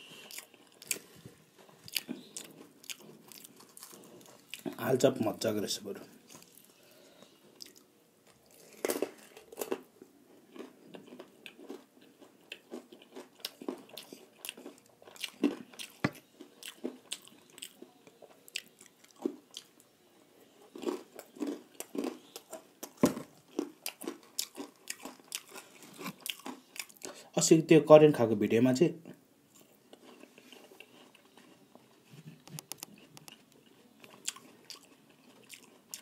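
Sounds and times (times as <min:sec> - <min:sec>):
chewing fried food: 0:00.1 - 0:04.8, 0:06.2 - 0:27.2, 0:29.5 - 0:36.0.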